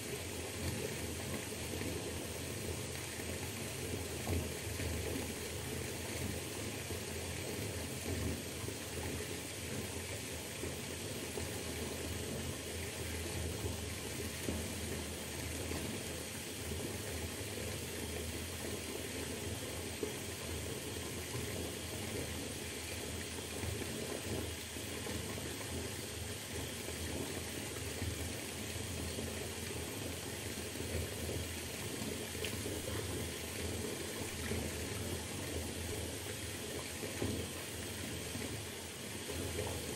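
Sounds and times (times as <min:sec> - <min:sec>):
tap water pouring into bathtub: 0:00.1 - 0:39.9.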